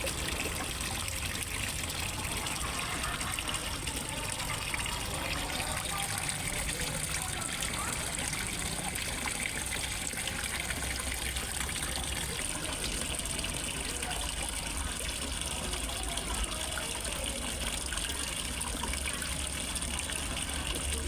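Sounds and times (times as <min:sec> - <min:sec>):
waterfall splashing into pond: 0:00.0 - 0:21.0.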